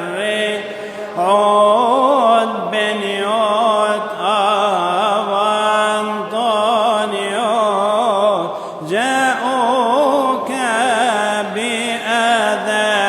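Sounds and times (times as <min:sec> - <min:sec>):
man chanting a hymn: 0:00.0 - 0:13.0.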